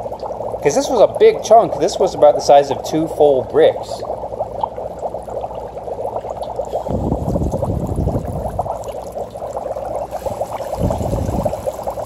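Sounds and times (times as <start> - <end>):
dry ice bubbling in water: 0.0 - 12.0.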